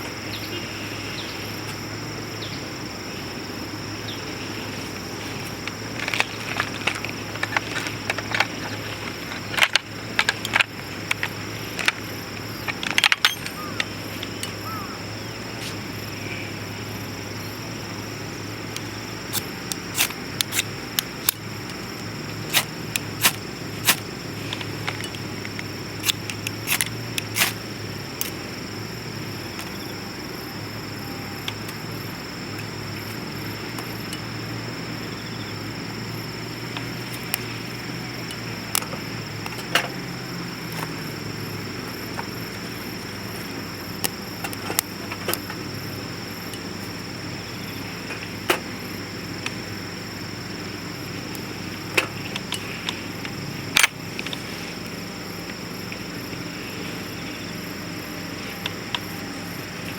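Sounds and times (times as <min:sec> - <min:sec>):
stove fire hissing: 0:00.0 - 0:30.4, 0:31.4 - 0:59.9.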